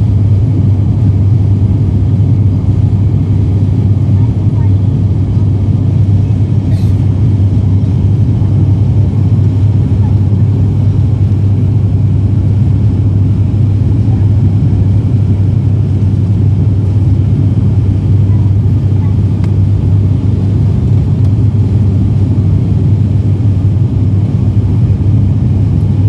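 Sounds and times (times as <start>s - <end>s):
propeller engines droning: 0.0s - 26.0s.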